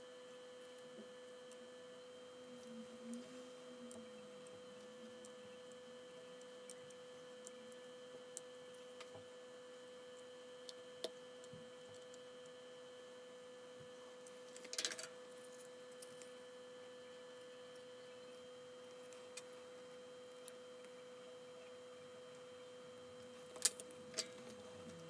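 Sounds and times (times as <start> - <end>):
faint electronic whine: 0.0 - 25.0.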